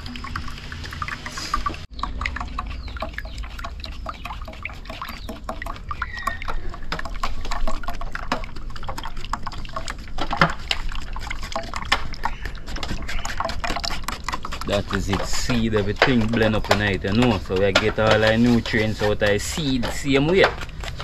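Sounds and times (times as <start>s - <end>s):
juice pouring into pot: 0.0s - 21.0s
spoon scraping wire-mesh sieve: 2.4s - 21.0s.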